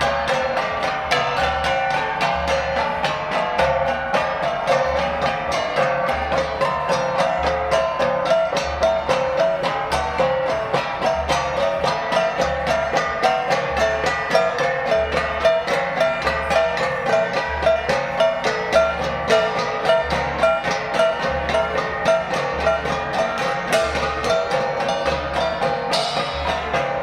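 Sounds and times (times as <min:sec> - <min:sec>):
low pulsing beat: 0:00.0 - 0:27.0
rapid struck percussion notes: 0:00.0 - 0:27.0.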